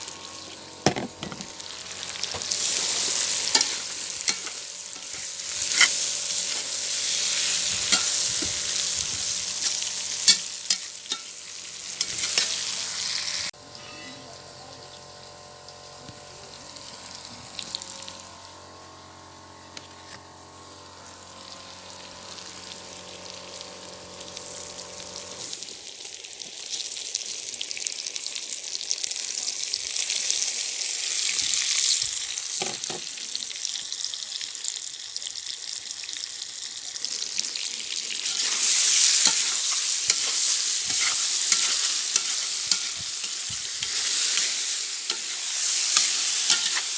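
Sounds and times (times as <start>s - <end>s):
food sizzling in oil: 0.0s - 19.6s, 20.5s - 46.9s.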